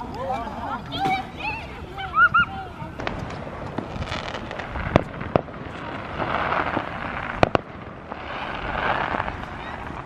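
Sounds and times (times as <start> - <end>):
crackling hiss: 0.9 - 10.0
fireworks bangs: 0.9 - 10.0.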